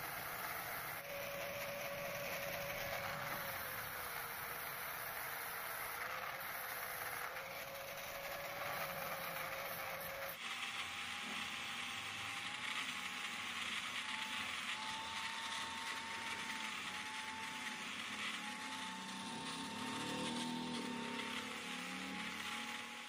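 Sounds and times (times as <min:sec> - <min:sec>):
angle grinder grinding metal: 0:00.0 - 0:23.0.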